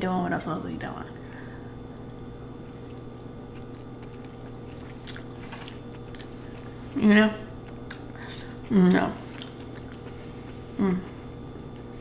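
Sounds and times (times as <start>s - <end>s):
steady low hum: 0.0s - 12.0s
quiet chewing: 1.9s - 12.0s.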